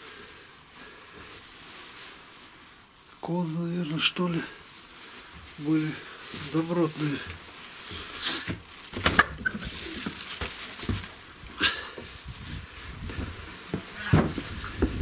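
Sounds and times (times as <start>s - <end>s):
footsteps on straw: 0.0s - 15.0s.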